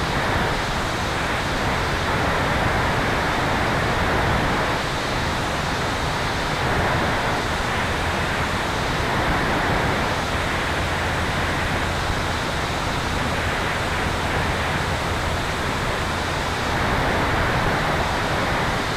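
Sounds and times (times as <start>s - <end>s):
wind and airflow rush: 0.0s - 18.9s.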